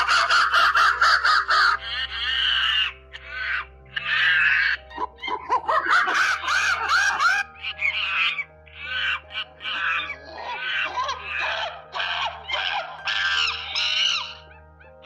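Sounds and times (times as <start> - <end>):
monkeys screeching calls: 0.0 - 15.0.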